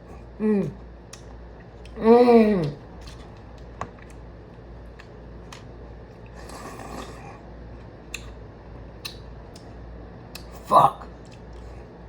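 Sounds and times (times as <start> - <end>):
person chewing: 0.0 - 11.9
steady low hum: 0.0 - 12.0.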